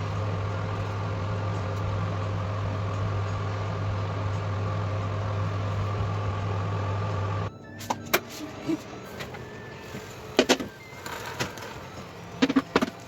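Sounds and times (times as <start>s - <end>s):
kitchen appliance motor humming: 0.0s - 7.5s, 8.6s - 13.0s.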